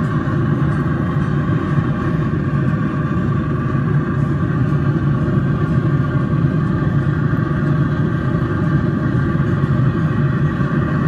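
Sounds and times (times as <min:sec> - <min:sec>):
grill fan motor humming: 0:00.0 - 0:11.0.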